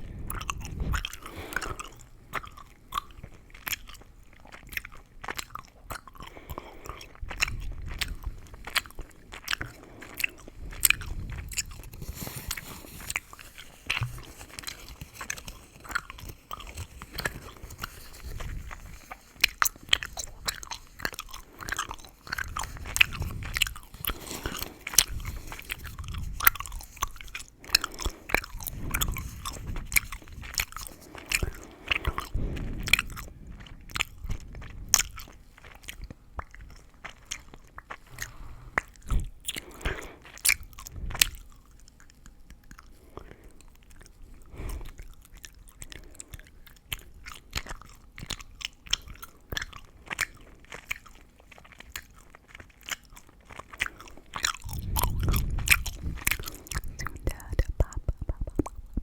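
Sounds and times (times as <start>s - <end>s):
gum chewing: 0.0s - 59.0s.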